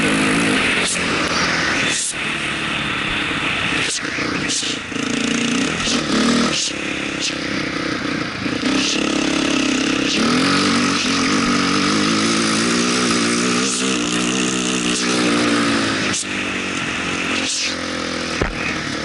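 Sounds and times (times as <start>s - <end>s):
dirt bike engine accelerating: 0.0s - 19.0s.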